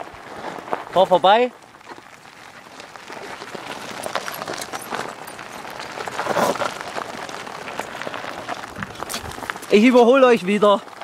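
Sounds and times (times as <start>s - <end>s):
wheels rolling over gravel: 0.0s - 11.0s.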